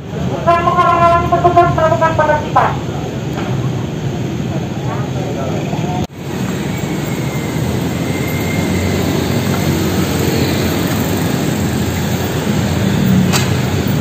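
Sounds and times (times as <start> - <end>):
street traffic roaring past: 0.0 - 14.0.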